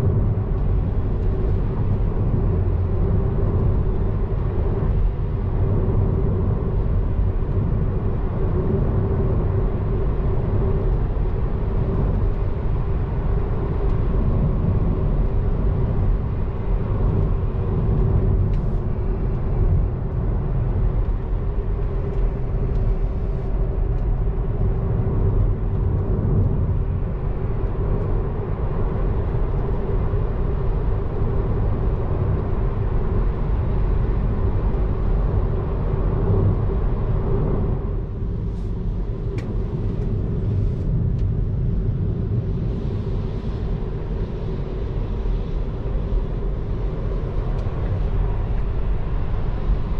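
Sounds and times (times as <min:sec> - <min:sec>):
steady car hum: 0:00.0 - 0:49.9.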